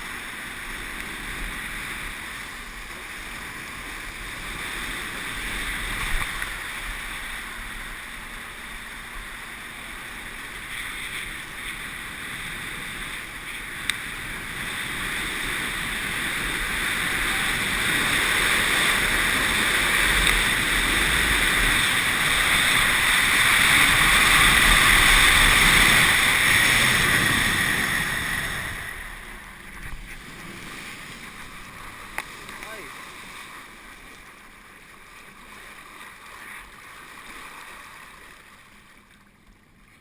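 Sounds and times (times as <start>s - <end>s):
wind rushing over camera: 0.0s - 34.0s.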